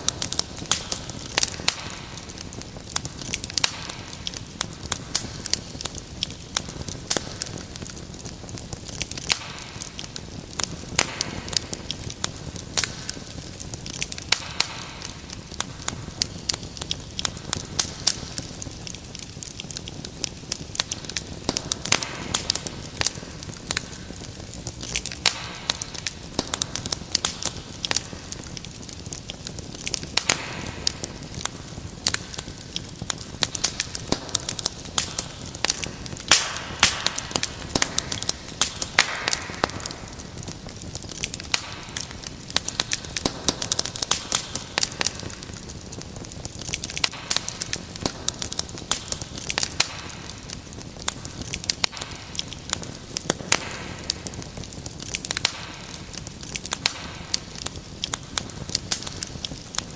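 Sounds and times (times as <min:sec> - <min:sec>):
fire hissing: 0:00.0 - 0:59.9
wood fire crackling and popping: 0:00.0 - 0:59.9.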